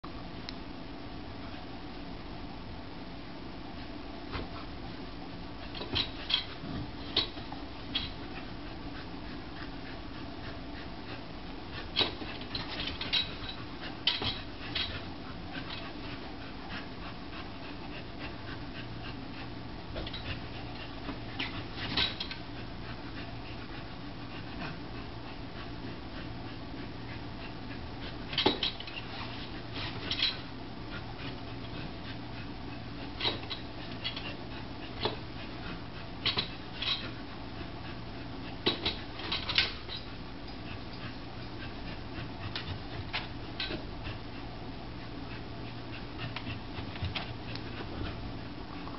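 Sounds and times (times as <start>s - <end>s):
low room hum: 0.0s - 48.9s.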